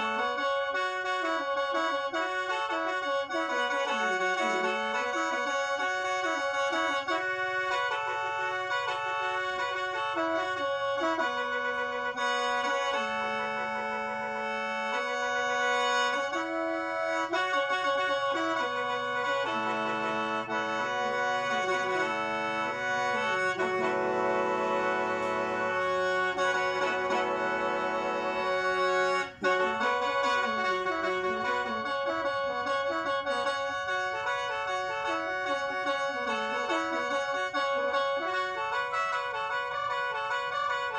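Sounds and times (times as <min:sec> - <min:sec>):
mouth organ melody over drone: 0:00.0 - 0:40.9.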